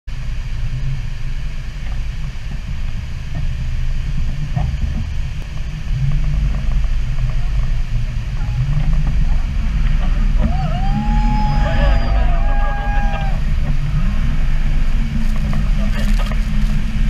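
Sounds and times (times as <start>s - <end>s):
outboard engines running: 0.1s - 17.0s
wind buffeting microphone: 0.2s - 17.0s.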